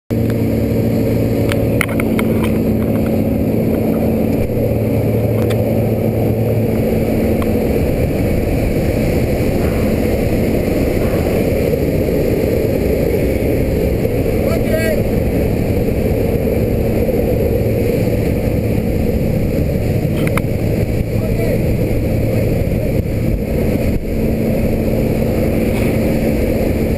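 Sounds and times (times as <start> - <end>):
plane engine and propeller drone: 0.1 - 26.9
steady hum: 0.1 - 26.9.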